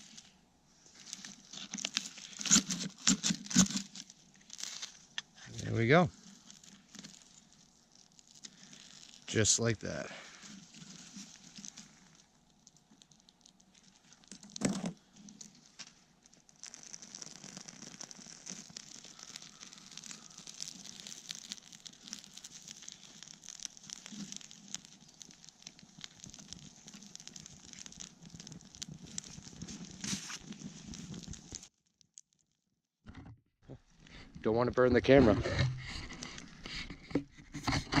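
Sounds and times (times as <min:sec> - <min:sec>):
campfire crackling: 0:00.0 - 0:31.7.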